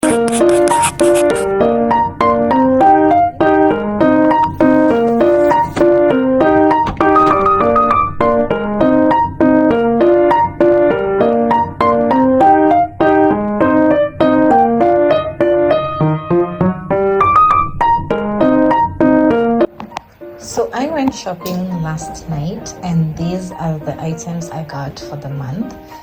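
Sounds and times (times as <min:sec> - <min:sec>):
quick piano run: 0:00.0 - 0:26.0.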